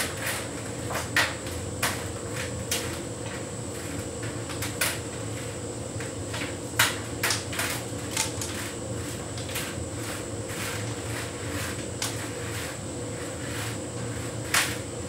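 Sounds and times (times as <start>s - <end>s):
tumble dryer hum: 0.0s - 15.0s.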